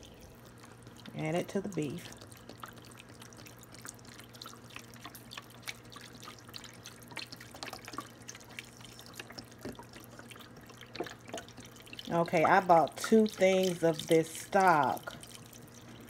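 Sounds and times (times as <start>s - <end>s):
liquid trickling into a pot: 0.0s - 16.0s.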